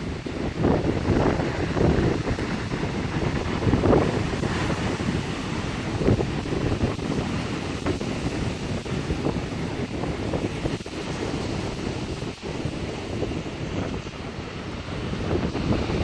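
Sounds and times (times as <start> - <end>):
surf breaking on rocks: 0.0 - 16.0
wind buffeting microphone: 0.0 - 16.0.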